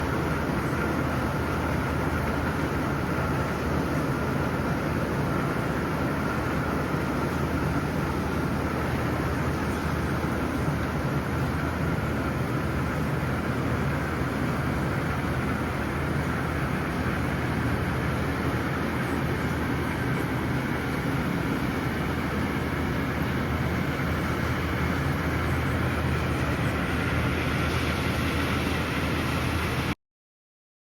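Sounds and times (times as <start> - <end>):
steady rainfall: 0.0 - 30.0.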